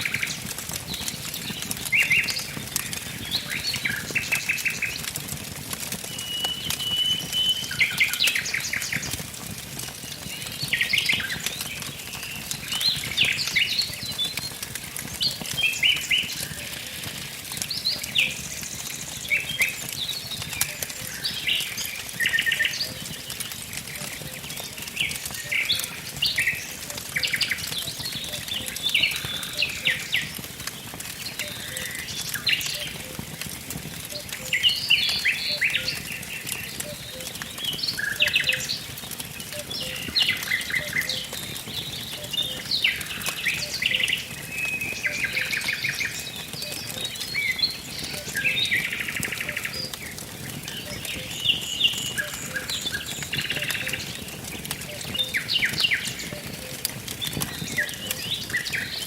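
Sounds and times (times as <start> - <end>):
songbirds chirping and trilling: 0.0 - 5.3, 5.9 - 59.0
wood fire crackling: 0.0 - 59.0.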